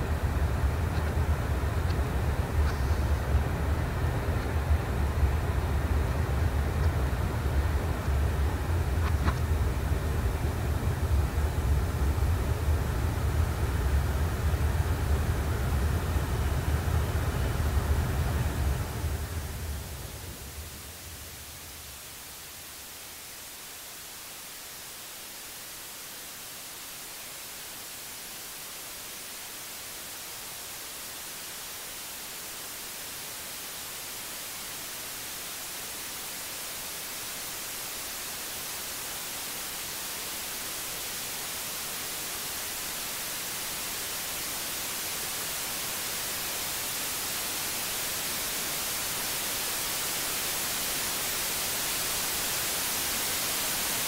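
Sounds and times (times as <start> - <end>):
white noise static hiss: 0.0 - 54.0.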